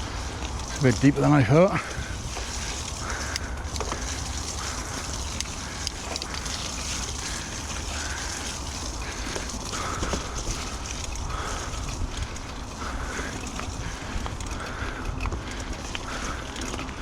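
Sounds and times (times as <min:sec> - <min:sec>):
bike clicks and rattles: 0:00.0 - 0:17.0
wind rumbling on microphone: 0:00.0 - 0:17.0
person breathing hard: 0:01.8 - 0:17.0.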